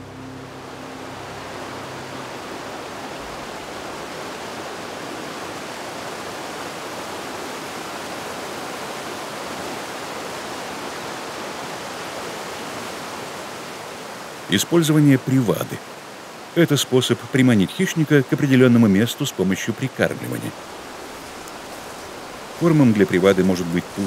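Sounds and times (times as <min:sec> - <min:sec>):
river rushing over boulders: 0:00.0 - 0:24.0.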